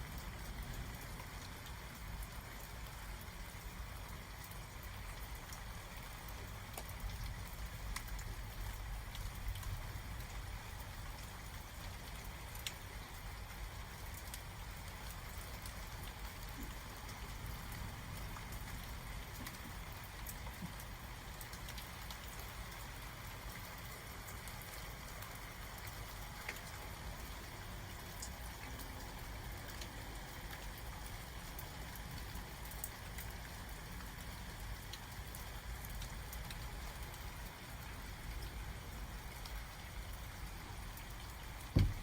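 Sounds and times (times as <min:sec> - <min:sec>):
steady rain: 0:00.0 - 0:42.0.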